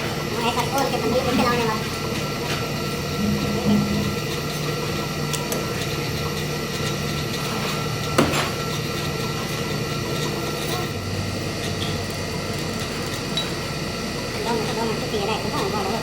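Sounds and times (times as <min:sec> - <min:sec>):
workshop machine humming: 0:00.0 - 0:16.0.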